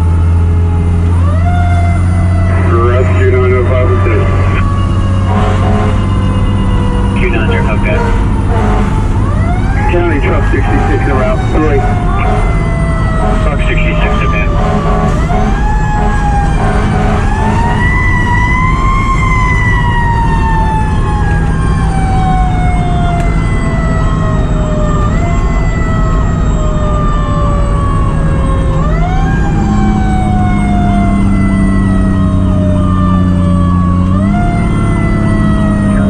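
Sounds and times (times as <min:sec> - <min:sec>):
fire truck siren wailing: 0:00.0 - 0:36.0
road noise: 0:00.0 - 0:36.0
truck engine hum: 0:00.0 - 0:36.0.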